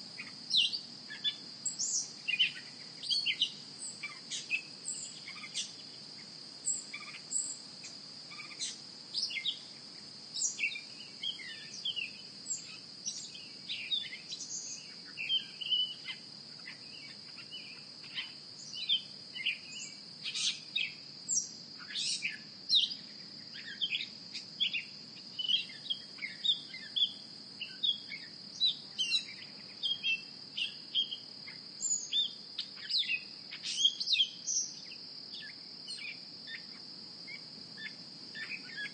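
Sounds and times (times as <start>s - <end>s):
crickets trilling: 0.0s - 38.9s
bird chirps: 0.2s - 5.8s, 8.3s - 9.7s, 10.4s - 36.7s, 37.3s - 38.9s.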